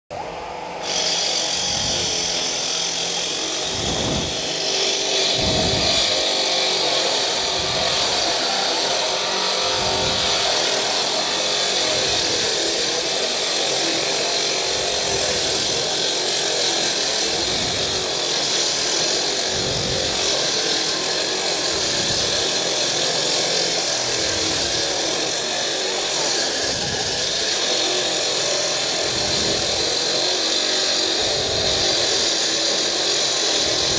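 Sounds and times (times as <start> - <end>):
concrete cutter cutting concrete: 0.1 - 33.9.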